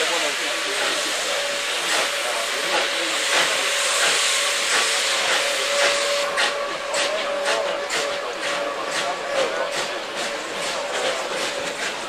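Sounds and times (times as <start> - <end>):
steam locomotive chuffing and hissing: 0.0 - 12.0.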